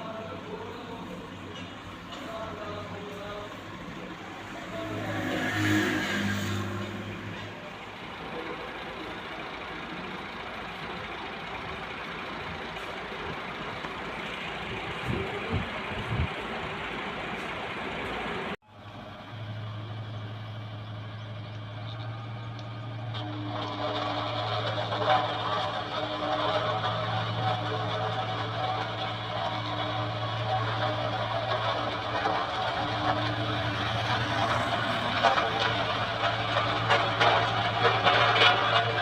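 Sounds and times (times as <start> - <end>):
heavy vehicle engines running: 0.0 - 39.0
low engine hum: 0.0 - 39.0.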